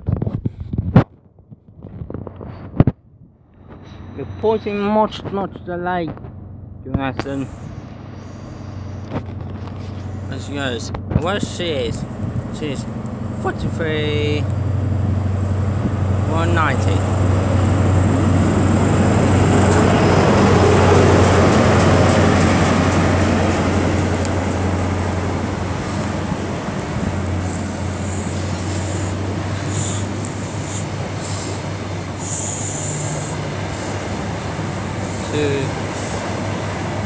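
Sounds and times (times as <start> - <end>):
wheels rumbling on rails: 0.0 - 37.0
low engine hum: 1.3 - 37.0
diesel train passing: 3.4 - 37.0.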